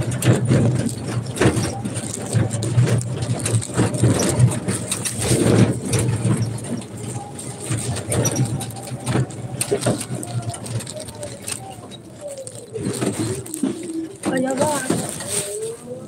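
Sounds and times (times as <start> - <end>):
vehicle rattles and knocks: 0.0 - 16.0.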